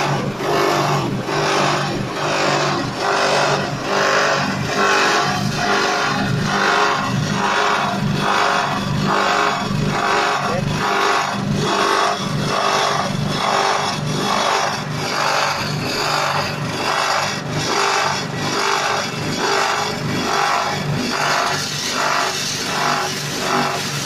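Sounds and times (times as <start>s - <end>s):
corn grinding machine running: 0.0s - 24.0s.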